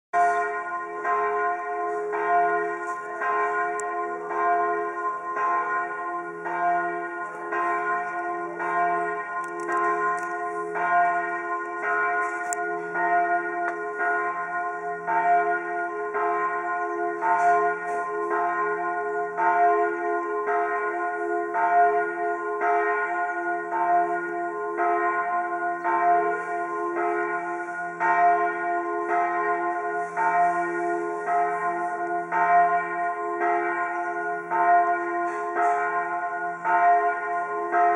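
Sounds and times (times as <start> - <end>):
church bells ringing: 0.1 - 37.9.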